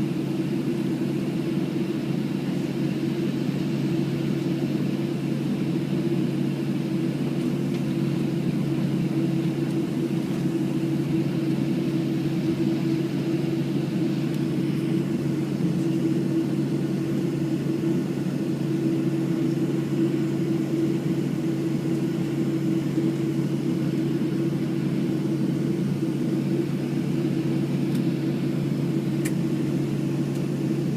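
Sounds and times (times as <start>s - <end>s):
airplane cabin drone: 0.0s - 30.9s.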